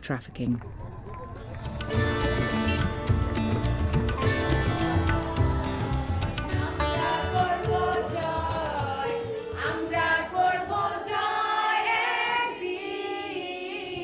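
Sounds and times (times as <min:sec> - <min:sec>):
voices singing together: 0:01.9 - 0:14.0.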